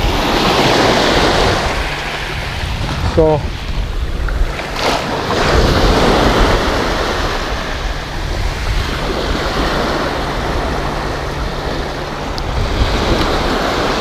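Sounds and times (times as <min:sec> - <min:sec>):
surf breaking on sand: 0:00.0 - 0:14.0
wind rumbling on microphone: 0:00.0 - 0:14.0.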